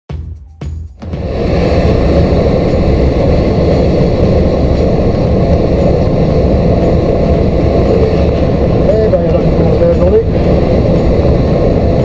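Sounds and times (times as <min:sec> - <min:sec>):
truck engine humming low: 0:01.3 - 0:12.0.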